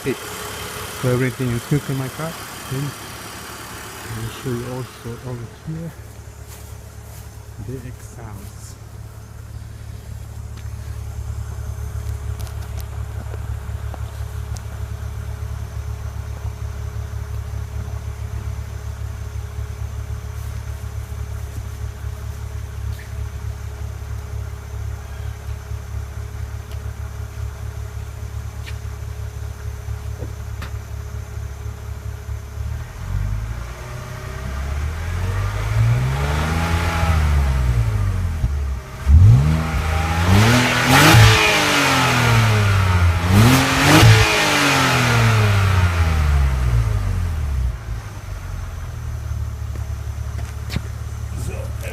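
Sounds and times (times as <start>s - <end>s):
car engine revving: 0.0s - 29.3s, 32.5s - 51.9s
car engine idling: 0.0s - 51.9s.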